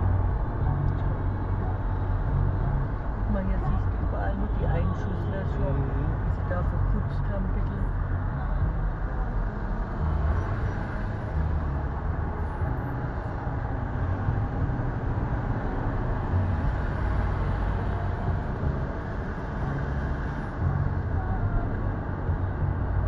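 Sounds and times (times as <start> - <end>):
car engine and tyres rumbling: 0.0 - 23.0.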